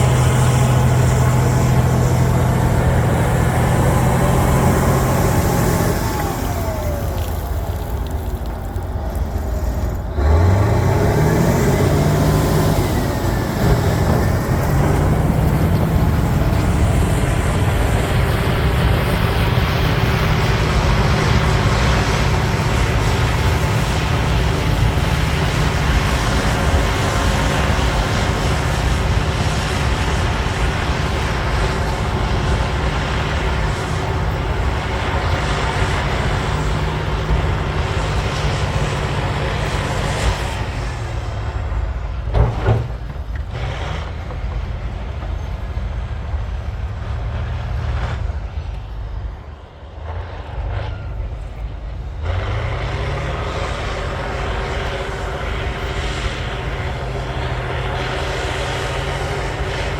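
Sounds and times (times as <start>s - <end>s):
bulldozer diesel engine: 0.0s - 59.9s
heavy machinery clatter: 0.0s - 59.9s.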